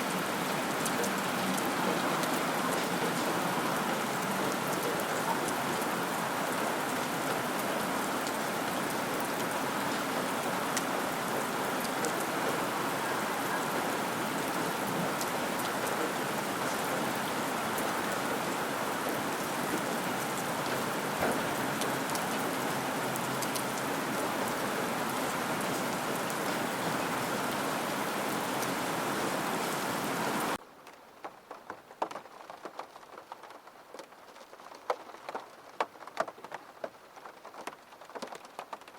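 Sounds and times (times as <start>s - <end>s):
dense rain falling: 0.0s - 38.9s.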